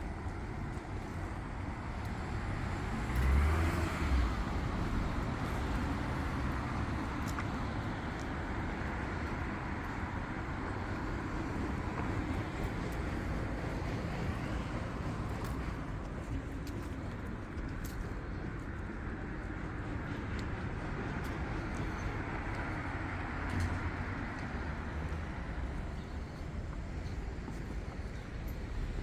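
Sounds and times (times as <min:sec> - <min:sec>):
passing cars hum: 0:00.0 - 0:29.0.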